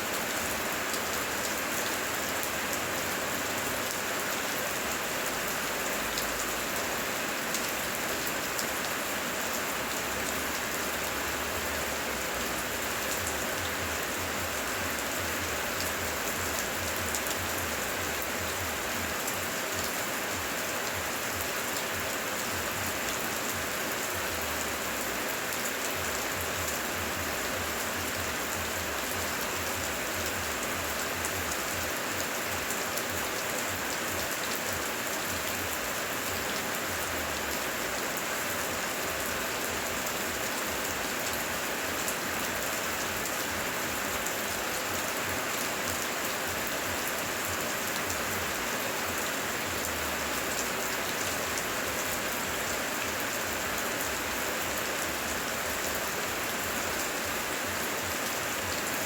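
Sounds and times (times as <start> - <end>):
heavy rain on foliage: 0.0 - 59.0.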